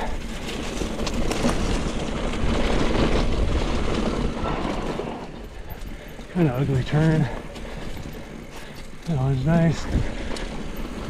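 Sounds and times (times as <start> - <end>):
bike rattling over bumps: 0.0 - 11.0
bike tyres rolling over dirt: 0.0 - 11.0.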